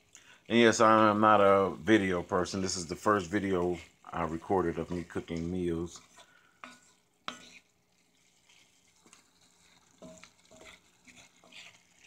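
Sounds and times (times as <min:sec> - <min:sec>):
food sizzling in a pan: 0:00.0 - 0:12.0
wooden spoon scraping food: 0:00.6 - 0:12.0.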